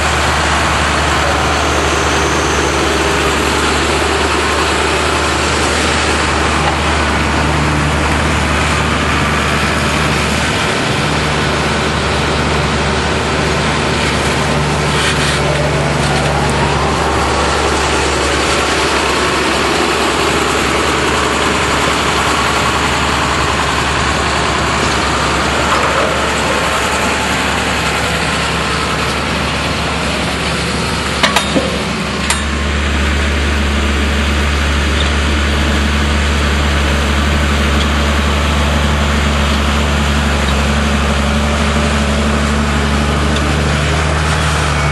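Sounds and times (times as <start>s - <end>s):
tractor engine humming: 0.0s - 44.9s.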